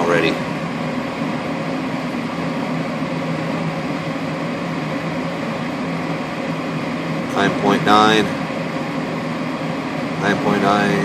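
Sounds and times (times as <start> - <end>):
furnace running: 0.0 - 11.0.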